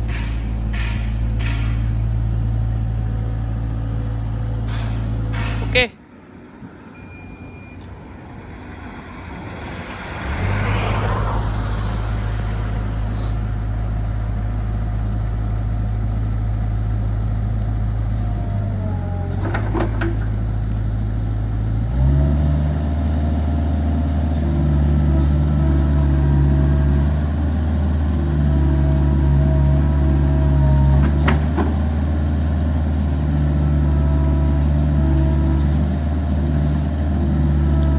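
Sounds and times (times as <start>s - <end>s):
diesel engine starting and idling: 0.0s - 6.6s, 7.8s - 37.9s.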